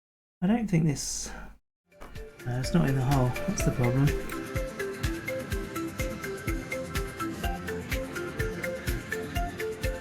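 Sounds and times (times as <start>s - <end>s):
background music with steady beat: 1.9s - 10.0s.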